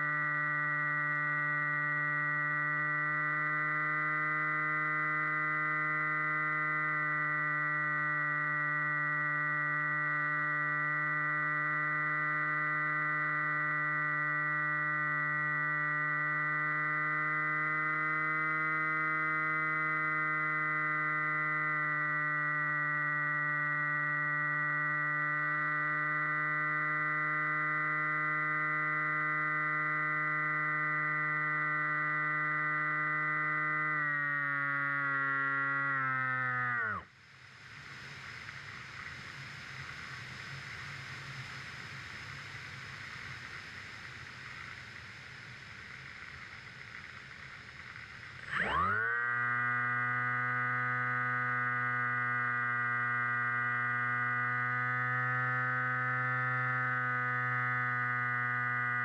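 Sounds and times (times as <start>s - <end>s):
motor and propeller humming: 0.0s - 59.0s.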